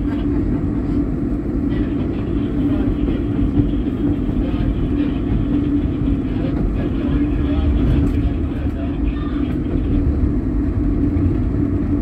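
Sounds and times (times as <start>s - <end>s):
subway train running: 0.0s - 12.0s.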